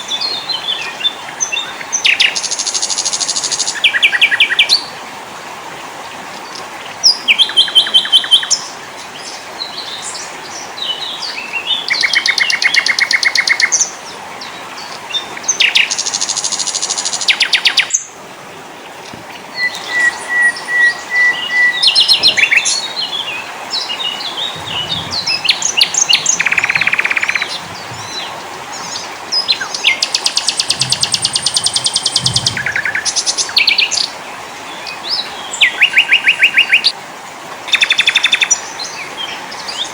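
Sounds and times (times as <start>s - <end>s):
songbirds trilling and chirping: 0.0s - 5.0s, 5.7s - 37.0s.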